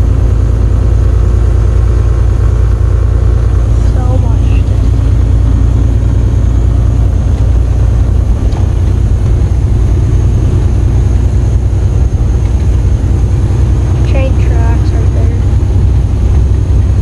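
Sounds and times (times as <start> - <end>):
truck engine and road noise rumble: 0.0 - 17.0.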